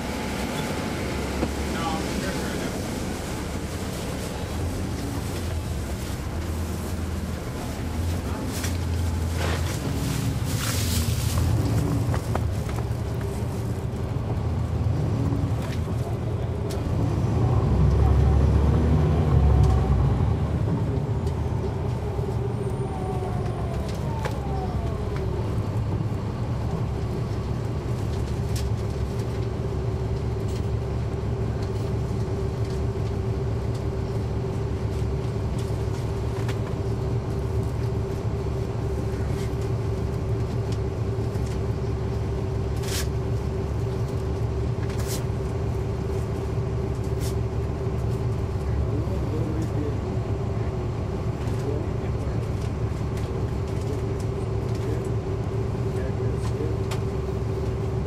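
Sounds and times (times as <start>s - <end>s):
bus diesel engine rumbling: 0.0s - 58.0s
constant engine whine: 0.0s - 58.0s.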